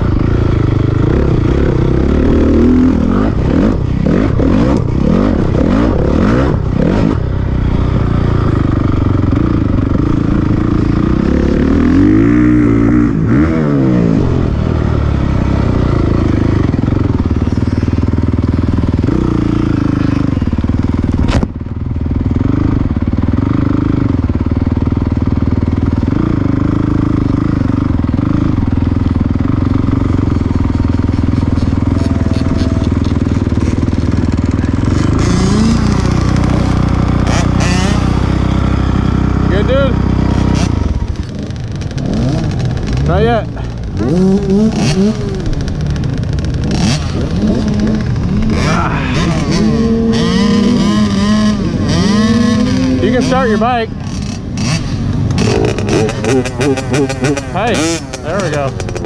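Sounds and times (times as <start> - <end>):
dirt bike engine revving: 0.0 - 21.4, 22.1 - 59.0.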